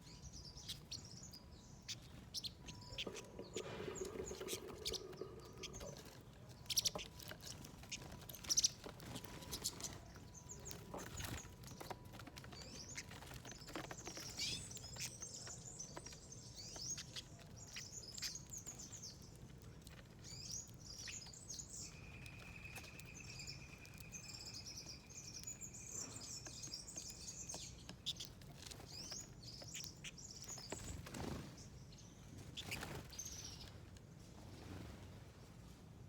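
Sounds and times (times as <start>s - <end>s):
small birds chirping: 0.0s - 35.8s.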